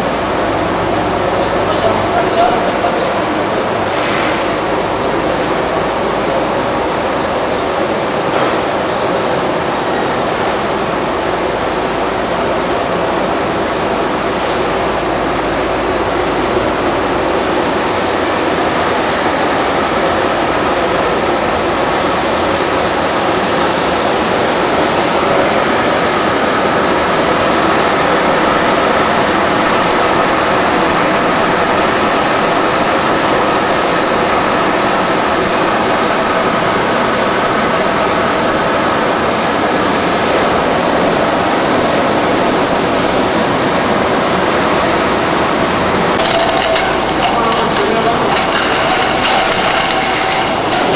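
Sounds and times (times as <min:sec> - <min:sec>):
factory machinery hissing: 0:00.0 - 0:50.9.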